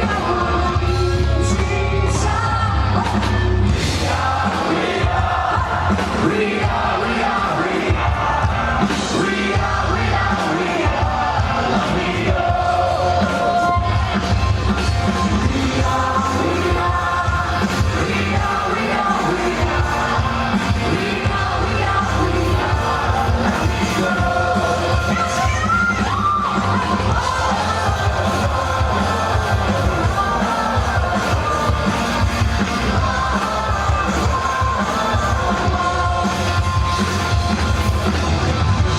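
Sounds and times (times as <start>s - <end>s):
live rock band playing: 0.0s - 38.9s
pulsing bass beat: 0.0s - 38.9s.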